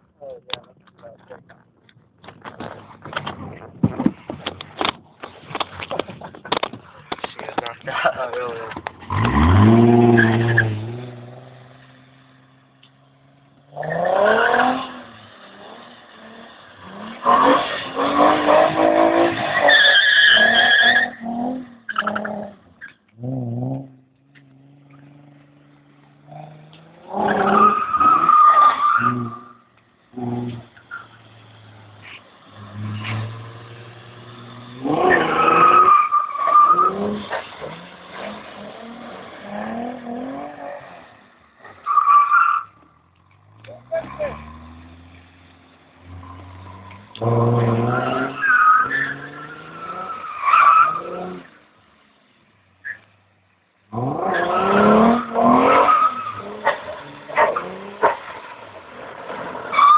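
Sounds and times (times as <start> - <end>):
car engine revving: 2.2 - 42.0, 42.6 - 53.1, 53.8 - 59.9
tires squealing: 2.5 - 51.8, 52.7 - 53.3, 53.9 - 59.9.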